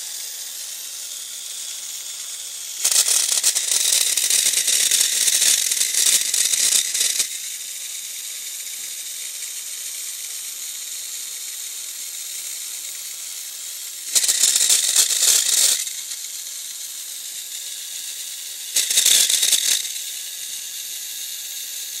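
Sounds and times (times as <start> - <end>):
small electric motor whirring: 0.0 - 22.0.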